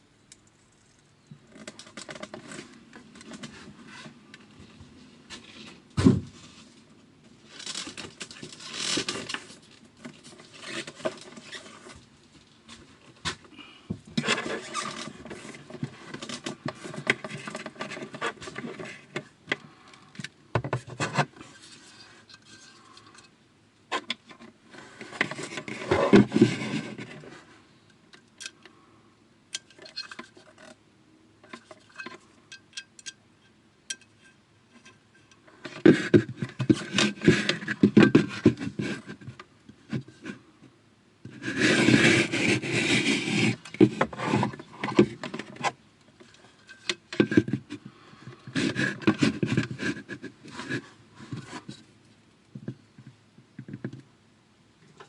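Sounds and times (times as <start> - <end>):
rustling and scraping of objects: 0.0 - 29.0, 29.6 - 54.2, 54.8 - 55.0.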